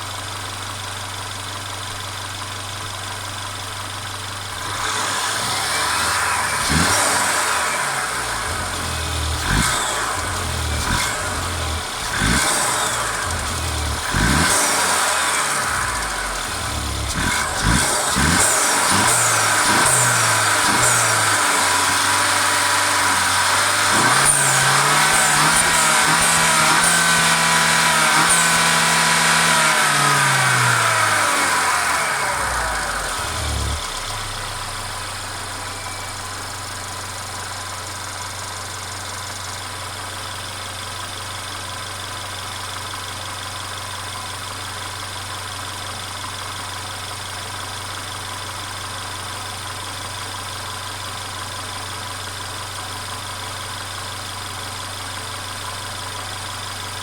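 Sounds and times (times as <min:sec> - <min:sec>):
car engine revving down to idle: 0:00.0 - 0:57.0.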